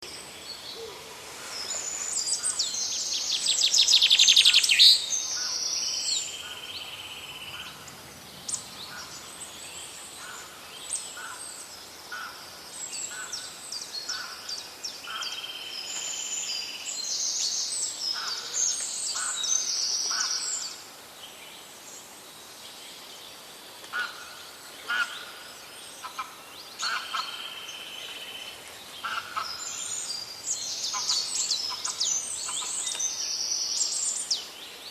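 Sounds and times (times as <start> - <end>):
birds singing and calling: 0.0 - 34.9
faint stream: 0.0 - 34.9.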